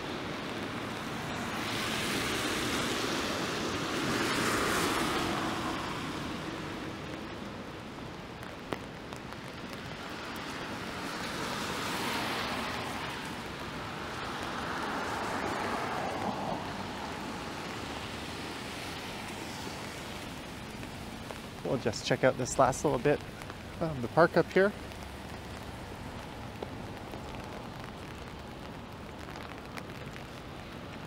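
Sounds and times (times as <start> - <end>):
steady rain: 0.0 - 31.0
tyres hissing on wet road: 0.0 - 31.0.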